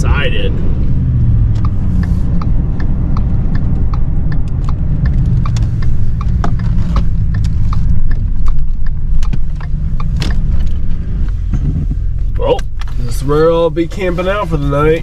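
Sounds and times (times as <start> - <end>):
truck engine and road noise: 0.0 - 15.0
light regular ticking: 0.6 - 14.8.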